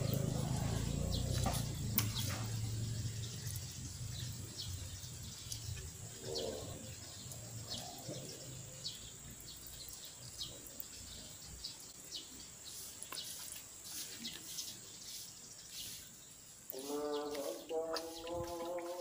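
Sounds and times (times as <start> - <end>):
lower bird calls: 0.0 - 19.0
small birds chirping: 0.0 - 19.0.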